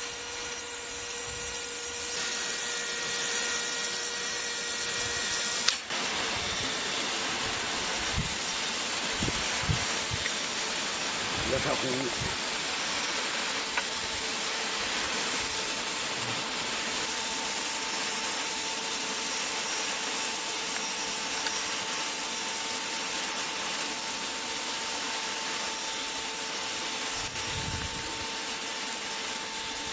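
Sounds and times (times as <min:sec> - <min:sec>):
sprinkler water jet hissing: 0:05.6 - 0:29.9.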